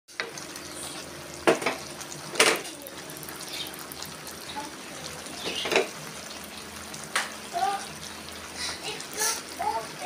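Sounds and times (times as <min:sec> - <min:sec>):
food sizzling: 0:00.1 - 0:10.0.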